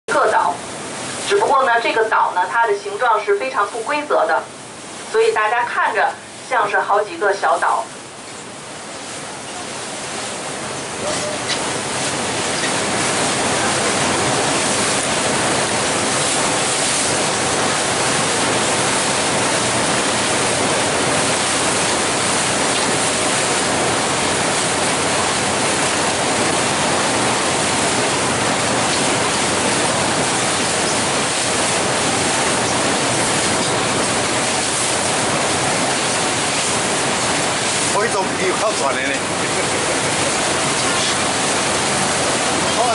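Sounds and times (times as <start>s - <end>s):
water rushing around boat: 0.1s - 42.9s.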